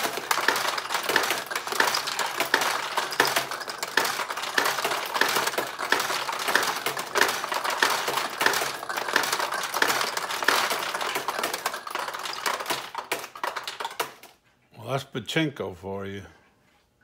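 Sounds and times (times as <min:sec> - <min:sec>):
steel balls clattering through pins: 0:00.0 - 0:14.4.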